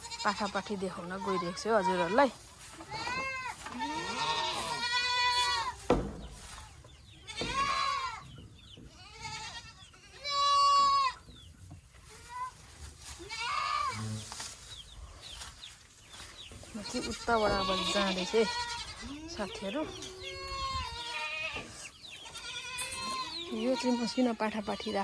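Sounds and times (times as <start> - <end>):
goat kids bleating: 0.0 - 5.9, 7.0 - 11.4, 12.1 - 14.3, 16.7 - 25.0.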